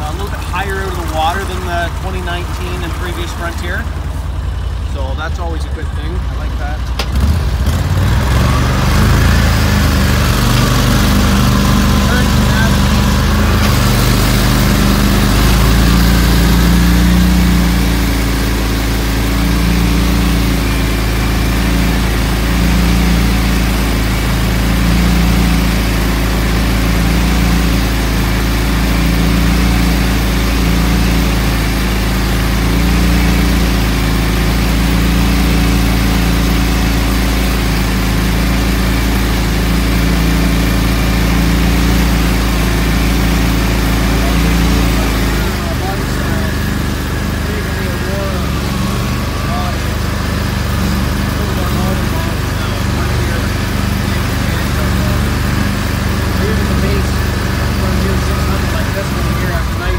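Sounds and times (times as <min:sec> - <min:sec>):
tires churning water: 0:00.0 - 0:59.9
vehicle engine running: 0:00.0 - 0:59.9.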